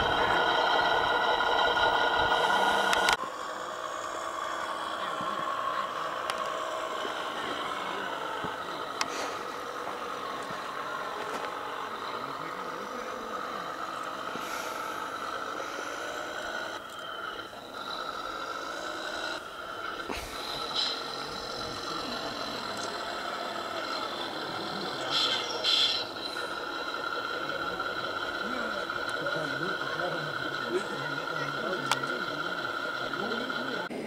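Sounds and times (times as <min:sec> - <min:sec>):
toy truck motor whine: 0:00.0 - 0:34.0.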